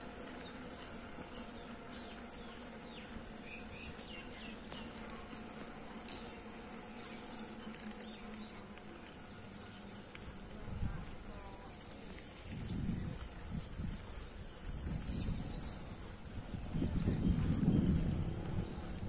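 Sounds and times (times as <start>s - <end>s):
thin high buzz: 0.0s - 16.6s.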